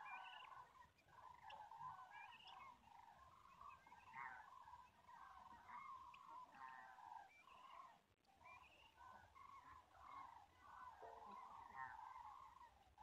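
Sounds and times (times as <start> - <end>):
flock of cranes calling: 0.0 - 13.0.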